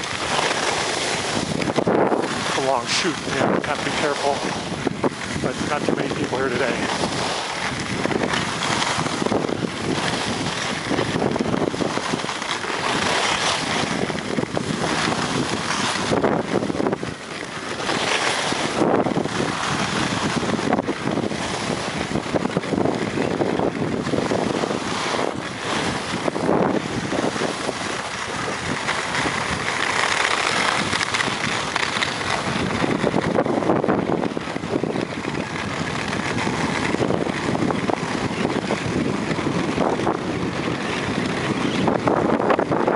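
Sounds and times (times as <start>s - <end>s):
skis scraping on snow: 0.0s - 42.9s
wind rushing over microphone: 0.0s - 42.9s.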